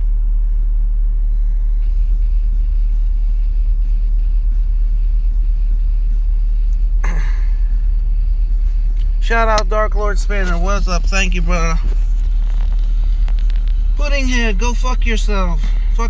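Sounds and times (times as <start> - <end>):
low vehicle rumble: 0.0 - 16.0.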